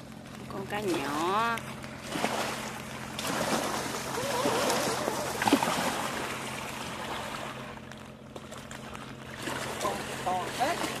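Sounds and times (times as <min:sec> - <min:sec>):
small waves lapping against rocks: 0:00.5 - 0:11.0.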